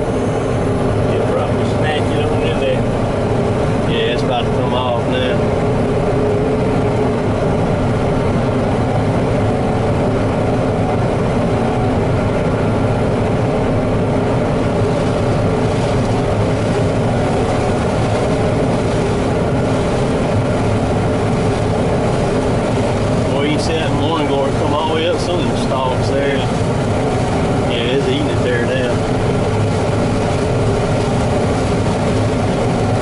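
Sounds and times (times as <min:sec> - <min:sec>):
combine harvester machinery drone: 0:00.0 - 0:33.0.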